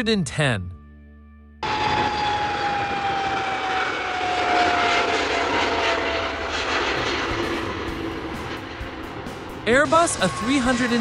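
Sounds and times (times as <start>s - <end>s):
jet airliner taking off: 1.6s - 11.0s.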